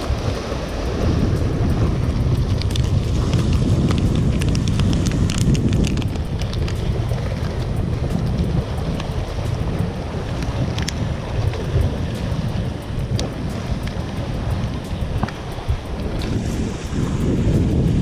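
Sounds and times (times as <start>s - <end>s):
sea surf washing against rocks: 0.0s - 18.0s
wind buffeting microphone: 0.0s - 18.0s.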